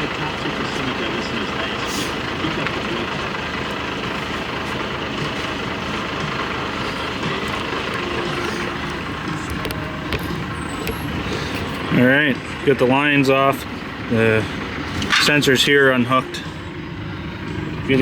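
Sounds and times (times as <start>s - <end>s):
machinery drone: 0.0s - 18.0s.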